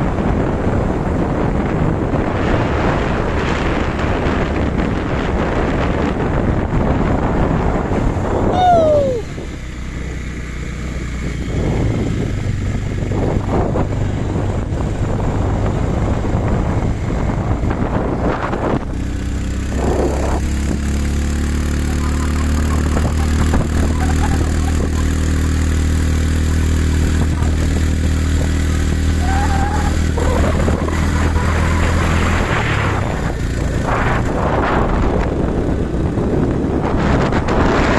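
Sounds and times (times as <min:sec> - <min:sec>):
motorcycle engine running: 0:00.0 - 0:37.9
wind noise on microphone: 0:00.0 - 0:37.9.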